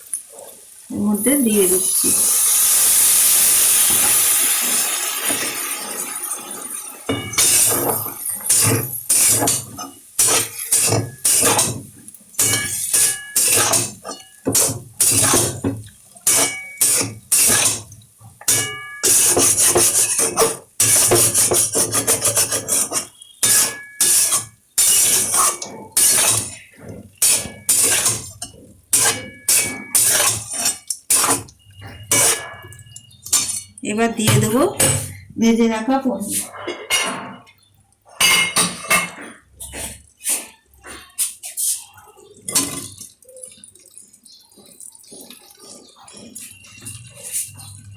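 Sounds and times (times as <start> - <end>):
metal spatula scraping a pan: 7.1 - 35.3, 36.2 - 37.6, 38.2 - 43.6, 44.2 - 47.9.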